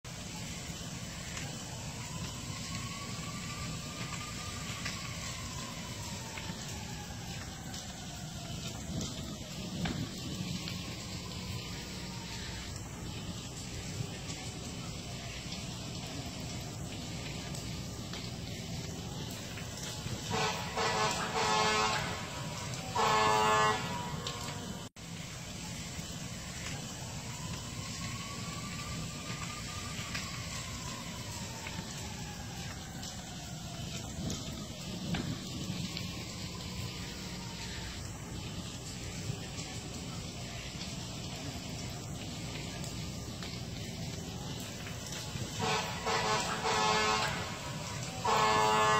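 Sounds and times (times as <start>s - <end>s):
faint siren wailing: 0.0s - 48.9s
fire rumbling and crackling: 0.0s - 48.9s.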